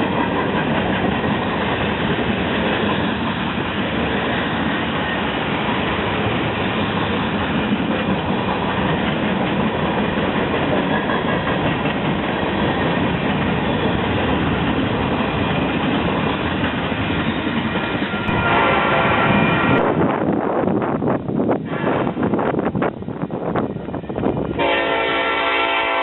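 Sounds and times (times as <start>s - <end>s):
railroad cars rolling on track: 0.0s - 26.0s.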